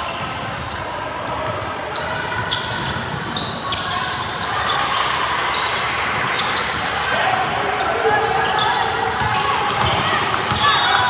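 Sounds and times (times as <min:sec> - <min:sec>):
crowd murmur: 0:00.0 - 0:11.0
sneaker squeaks: 0:00.0 - 0:11.0.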